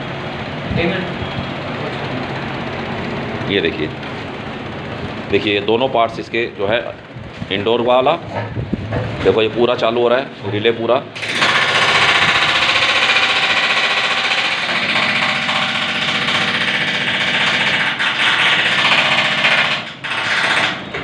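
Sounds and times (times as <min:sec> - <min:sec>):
air conditioner rattling: 0:00.0 - 0:21.0.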